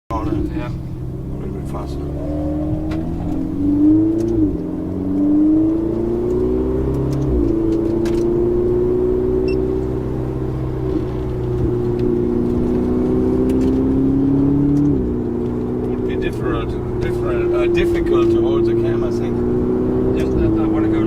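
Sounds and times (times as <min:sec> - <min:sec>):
car engine accelerating hard: 0:00.1 - 0:21.0.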